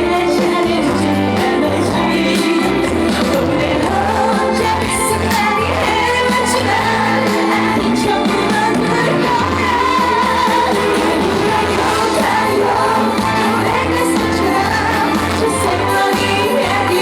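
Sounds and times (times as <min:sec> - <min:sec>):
upbeat amplified backing music: 0:00.0 - 0:17.0
woman singing: 0:00.0 - 0:17.0.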